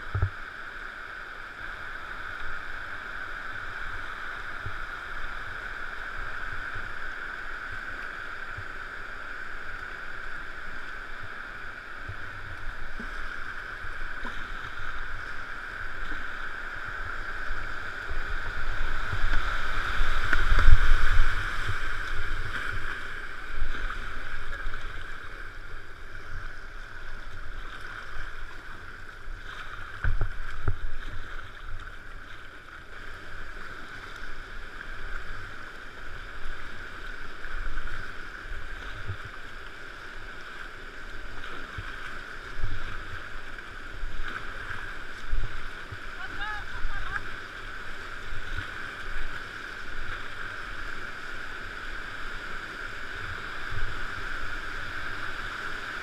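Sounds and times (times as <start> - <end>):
rushing white water: 0.0 - 56.0
water splashes: 0.0 - 56.0.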